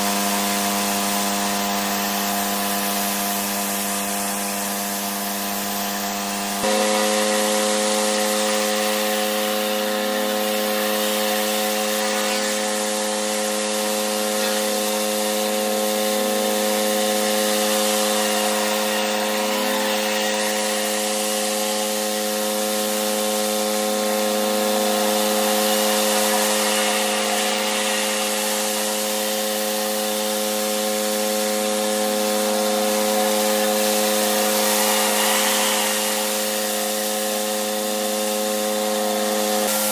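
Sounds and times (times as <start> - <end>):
pressure washer hum: 0.0 - 39.9
water spraying on paving: 0.4 - 39.9.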